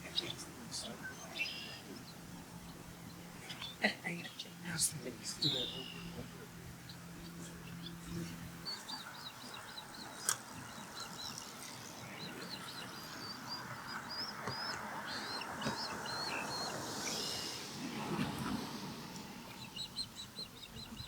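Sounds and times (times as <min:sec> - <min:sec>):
osprey chirping: 0:00.0 - 0:17.8, 0:19.0 - 0:21.0
low steady hum: 0:00.0 - 0:21.0.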